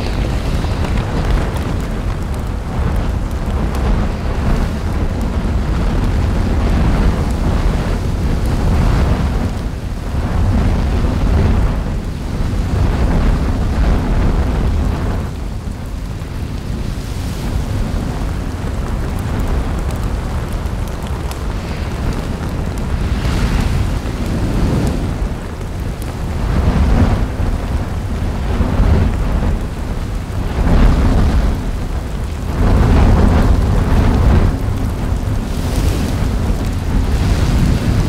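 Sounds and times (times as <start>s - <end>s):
lava fountain roaring: 0.0s - 38.0s.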